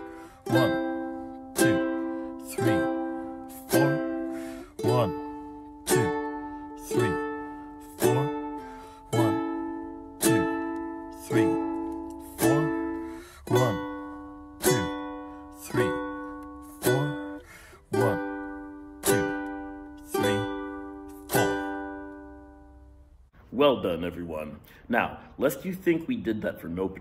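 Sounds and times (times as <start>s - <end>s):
ukulele strumming chords: 0.0s - 23.2s.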